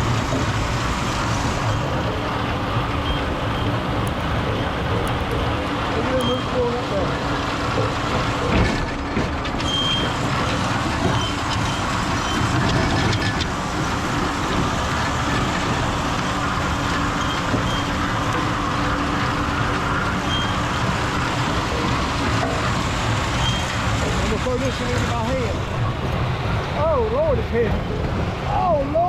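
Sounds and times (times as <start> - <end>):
tractor engine under load: 0.0 - 6.8, 7.7 - 26.7
machine tumblers rumbling: 0.0 - 29.0.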